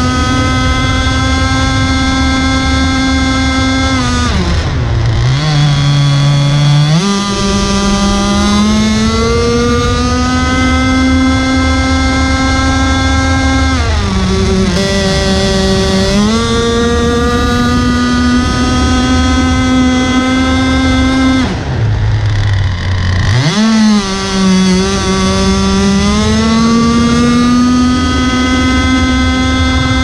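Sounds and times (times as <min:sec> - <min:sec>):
model speedboat engine running: 0:00.0 - 0:30.0.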